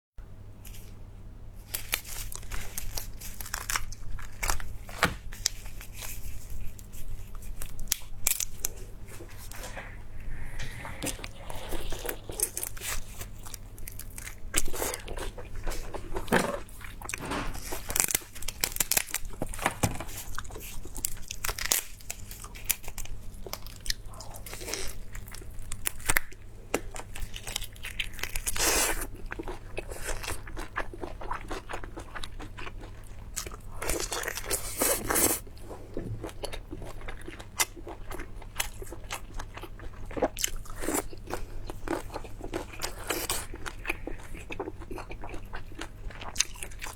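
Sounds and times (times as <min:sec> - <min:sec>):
person chewing crunchy food: 0:01.7 - 0:46.9.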